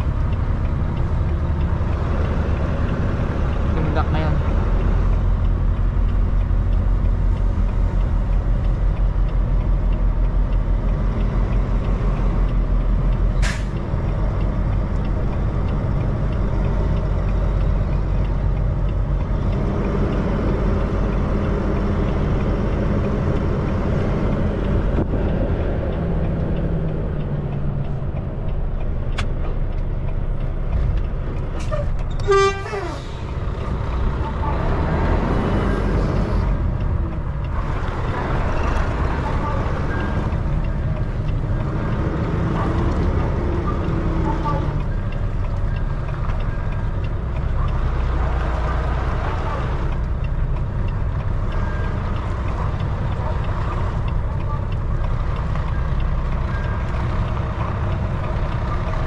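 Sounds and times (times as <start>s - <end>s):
diesel truck engine running: 0.0s - 32.4s, 33.0s - 59.0s.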